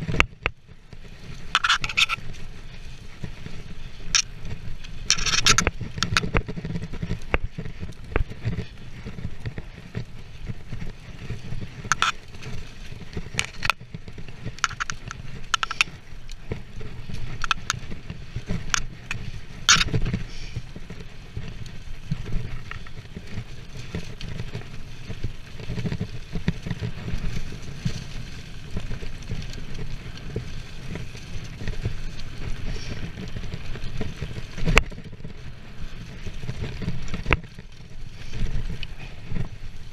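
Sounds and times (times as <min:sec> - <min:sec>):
bike rattling over bumps: 0:00.0 - 0:39.9
bike tyres rolling over dirt: 0:00.0 - 0:39.9.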